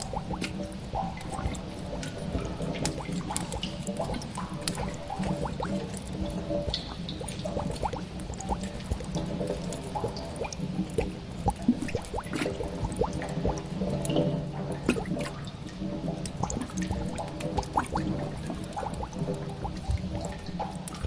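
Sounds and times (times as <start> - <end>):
water drops plinking: 0.0 - 21.0.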